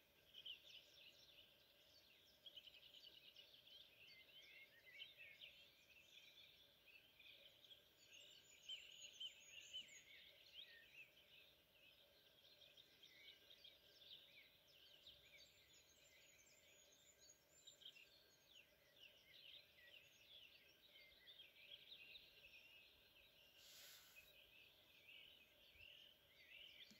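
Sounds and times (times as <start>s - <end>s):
songbirds chirping and trilling: 0.0s - 26.9s.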